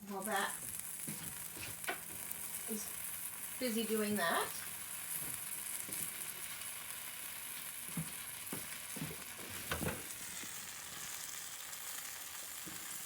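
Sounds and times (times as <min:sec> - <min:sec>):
sandwich sizzling in a pan: 0:00.0 - 0:13.0.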